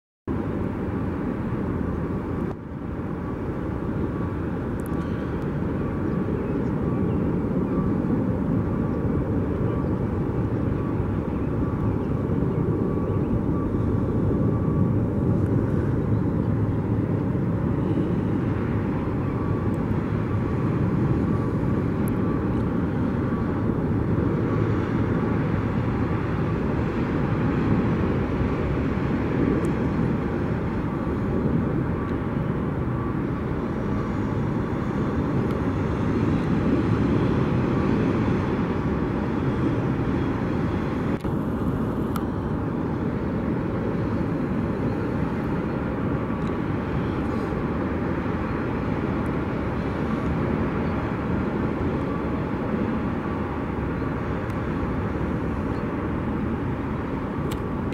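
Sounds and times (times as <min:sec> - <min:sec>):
jet engines rushing: 0:00.3 - 0:57.9.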